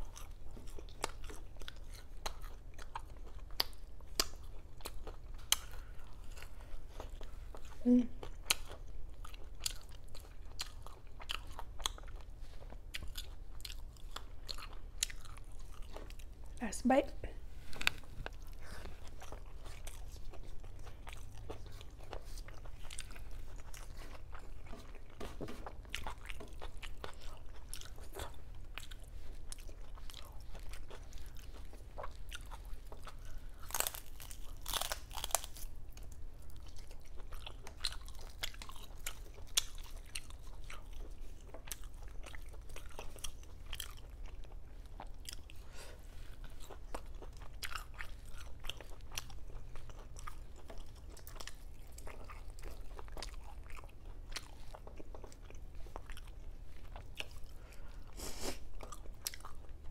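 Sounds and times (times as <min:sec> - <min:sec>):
crunching and chewing crispy pork: 0:00.0 - 0:16.7, 0:17.5 - 0:59.9.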